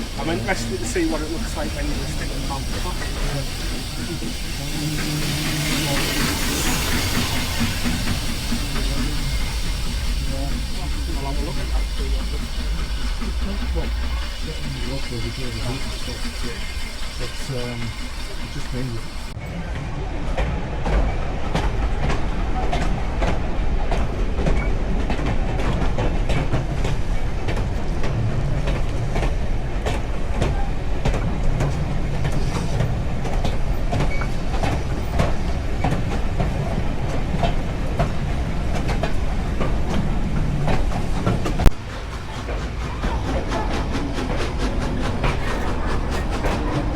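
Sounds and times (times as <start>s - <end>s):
wheels clattering over rails: 0.0s - 19.4s, 20.3s - 46.9s
train rumbling: 0.0s - 46.9s.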